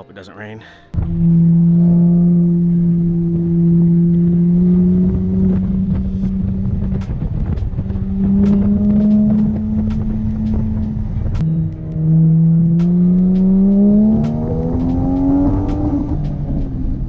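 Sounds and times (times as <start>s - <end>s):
car engine rising in pitch: 1.0s - 17.0s.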